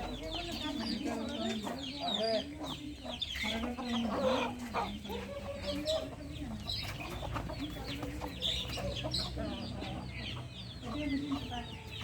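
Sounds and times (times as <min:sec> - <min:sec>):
chickens clucking and calling: 0:00.0 - 0:12.0.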